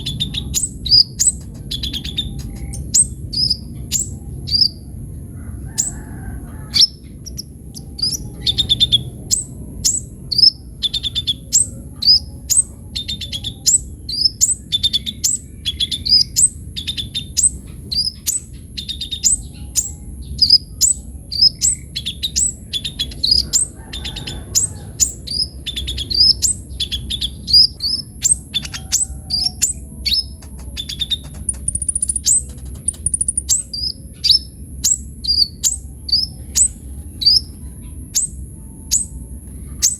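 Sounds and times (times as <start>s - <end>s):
bird singing high thin chirps: 0.0s - 4.8s, 6.7s - 39.2s.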